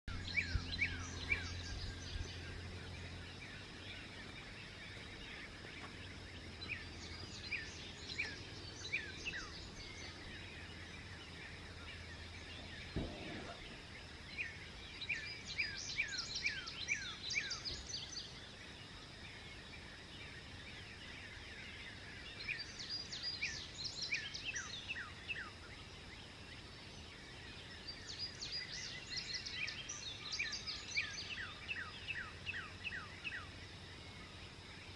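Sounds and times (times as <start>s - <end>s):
songbirds chirping: 0.0s - 34.9s
background hiss: 0.2s - 34.9s.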